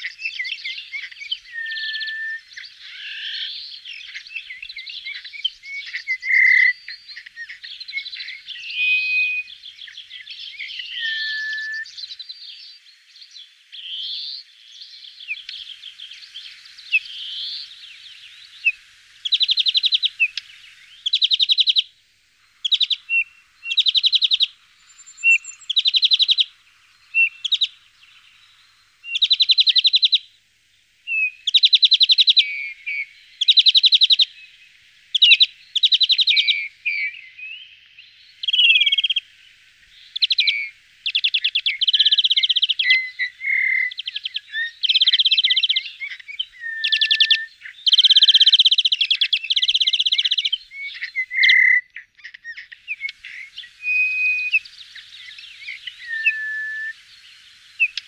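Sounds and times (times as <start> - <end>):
finches trilling and singing: 0.0 - 21.9, 22.5 - 30.3, 31.1 - 58.0.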